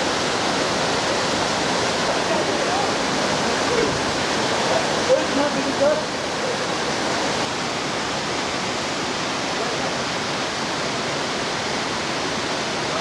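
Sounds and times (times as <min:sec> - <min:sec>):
waterfall splashing into pool: 0:00.0 - 0:13.0.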